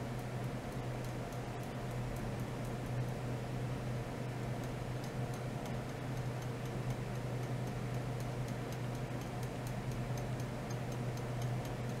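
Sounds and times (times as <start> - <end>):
faint regular ticking: 0.0 - 12.0
steady low hum: 0.0 - 12.0.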